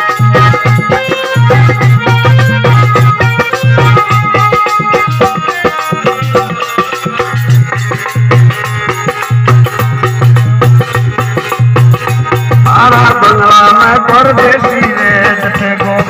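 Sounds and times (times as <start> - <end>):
driving drum beat: 0.0 - 16.0
folk instrumental melody: 0.0 - 16.0.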